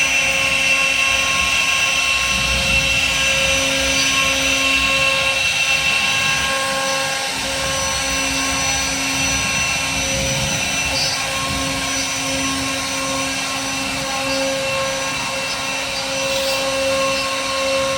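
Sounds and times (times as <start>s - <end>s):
bit cutting wood: 0.0s - 17.9s
router spindle whining: 0.0s - 17.9s.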